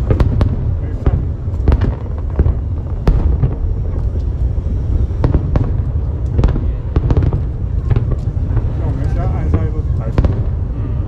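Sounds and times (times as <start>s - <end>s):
fireworks bangs: 0.0s - 11.0s
low rumble: 0.0s - 11.0s.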